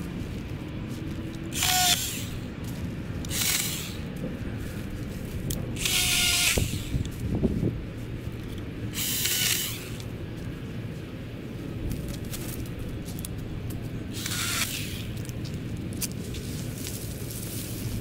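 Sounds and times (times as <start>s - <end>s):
leaves rustling: 0.0s - 18.0s.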